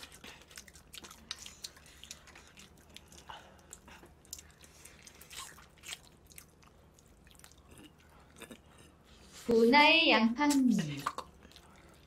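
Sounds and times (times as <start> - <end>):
faint wet chewing: 0.0 - 9.5, 10.8 - 12.0.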